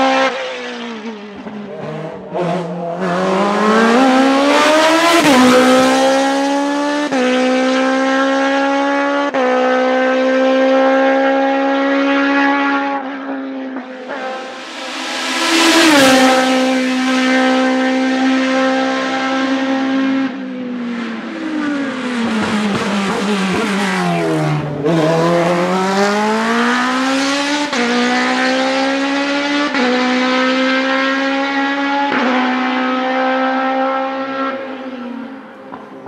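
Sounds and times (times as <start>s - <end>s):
racing car engine revving: 0.0s - 36.0s.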